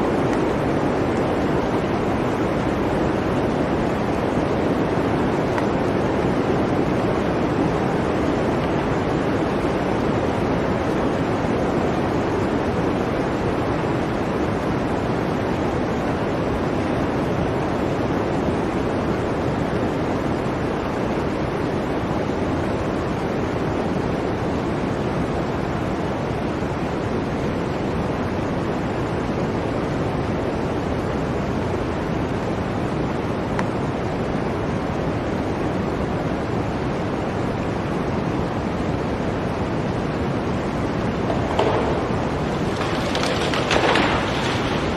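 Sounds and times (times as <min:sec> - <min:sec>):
blizzard wind rushing: 0:00.0 - 0:44.9.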